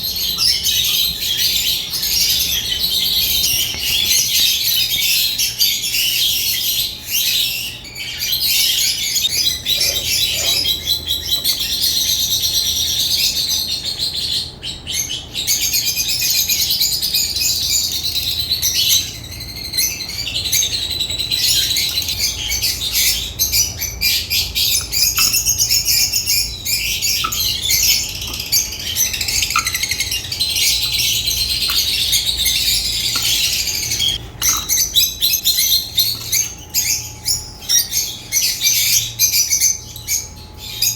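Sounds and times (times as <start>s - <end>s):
lovebirds chirping and chattering: 0.0s - 40.9s.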